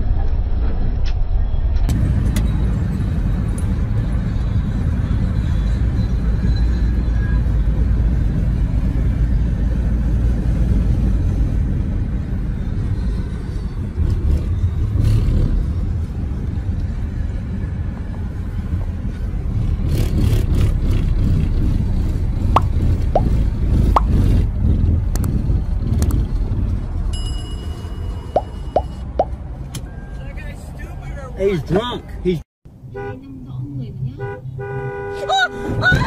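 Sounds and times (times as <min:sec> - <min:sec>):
car interior road rumble: 0:01.9 - 0:36.0.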